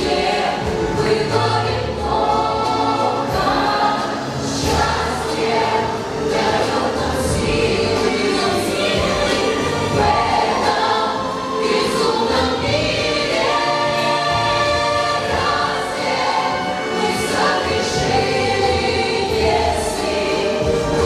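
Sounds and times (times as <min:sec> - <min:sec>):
group of voices singing: 0:00.0 - 0:21.0
musical accompaniment: 0:00.0 - 0:21.0.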